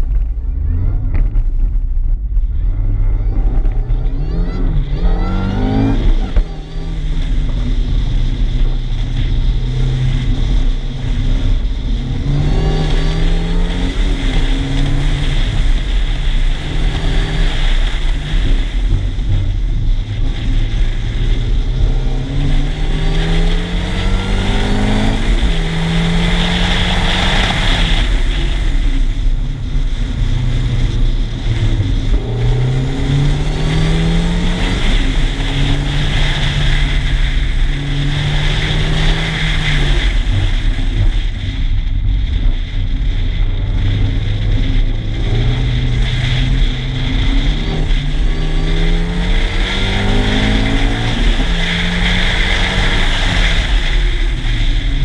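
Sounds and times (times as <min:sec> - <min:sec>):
car engine revving: 0:00.0 - 0:55.0
steady rushing noise: 0:00.0 - 0:55.0.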